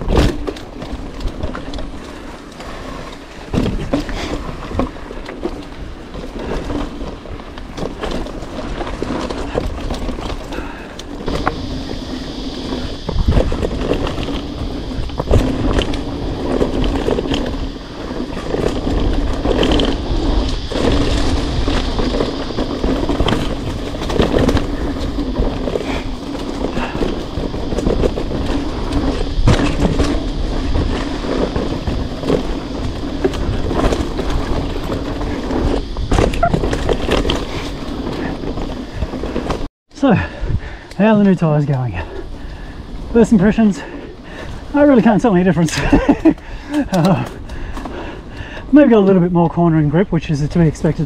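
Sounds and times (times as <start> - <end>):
bike clattering over bumps: 0.0 - 51.0
bike tyres rumbling on dirt: 0.0 - 51.0.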